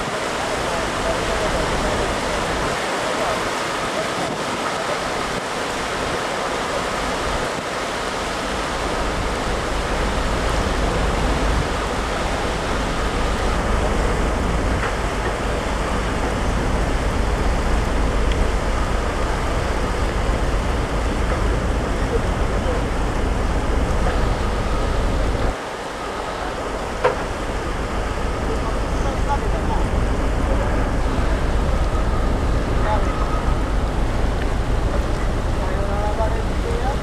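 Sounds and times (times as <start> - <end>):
water rushing from propeller wash: 0.0 - 37.0
deep rumble: 7.2 - 37.0.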